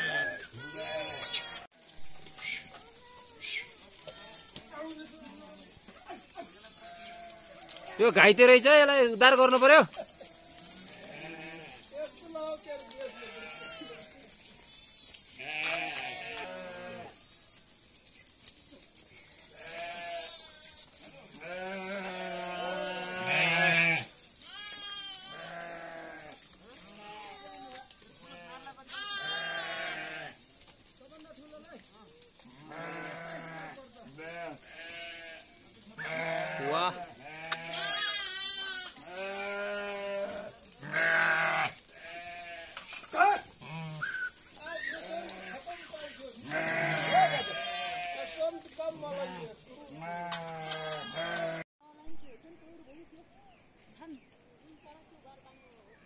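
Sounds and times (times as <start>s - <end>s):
sheep bleating: 0.0s - 5.6s, 6.3s - 14.4s, 15.3s - 17.5s, 19.5s - 30.4s, 32.4s - 51.6s.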